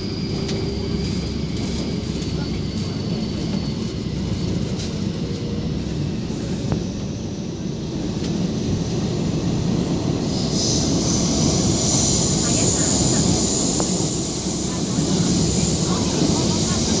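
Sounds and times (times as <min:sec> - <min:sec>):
train rumbling through tunnel: 0:00.0 - 0:17.0.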